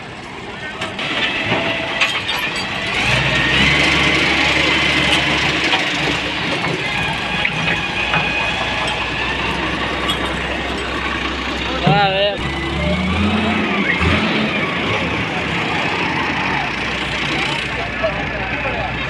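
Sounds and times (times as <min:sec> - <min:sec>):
tractor engine running: 0:00.0 - 0:19.0
engine knocks: 0:00.7 - 0:19.0.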